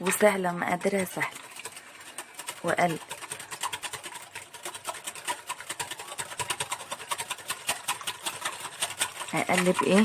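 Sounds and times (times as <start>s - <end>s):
batter being stirred: 0.0s - 10.0s
utensil clicking against bowl: 0.0s - 10.0s.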